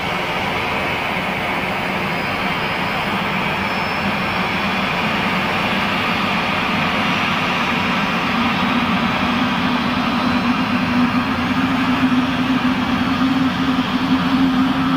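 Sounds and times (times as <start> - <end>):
faint high whine: 0.0 - 14.9
jet engines idling: 0.0 - 14.9.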